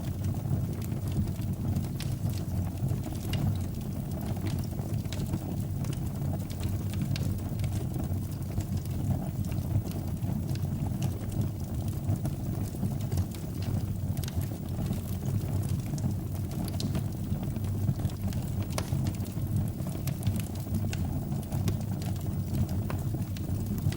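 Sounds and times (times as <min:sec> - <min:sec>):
fire burning in fireplace: 0:00.0 - 0:23.9
fire crackles and pops: 0:00.0 - 0:23.9.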